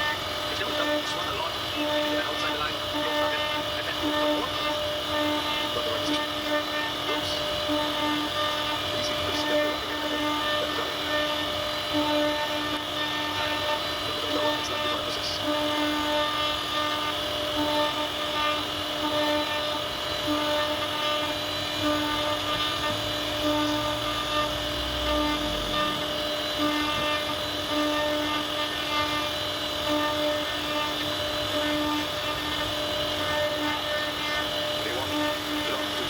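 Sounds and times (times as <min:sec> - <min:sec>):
router spindle motor whine: 0:00.0 - 0:36.0.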